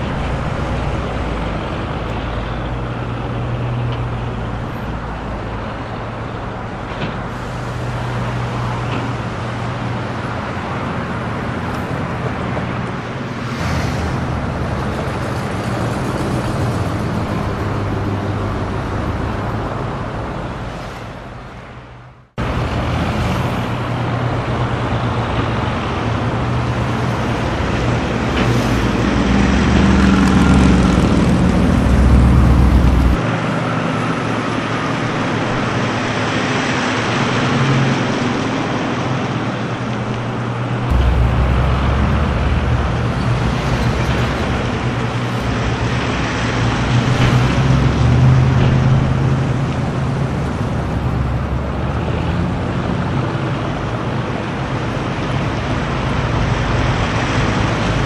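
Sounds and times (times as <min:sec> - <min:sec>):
car engines: 0:00.0 - 0:58.0
low traffic rumble: 0:00.0 - 0:58.0.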